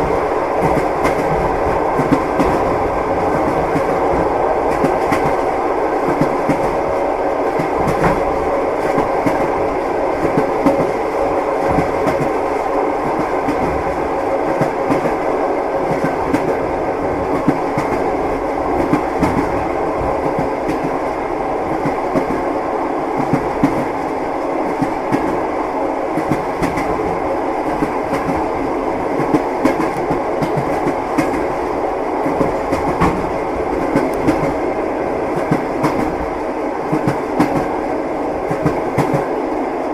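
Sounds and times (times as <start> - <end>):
train wheels clattering on rails: 0.0 - 15.2, 15.8 - 22.5, 23.1 - 25.4, 26.1 - 37.8, 38.4 - 39.4.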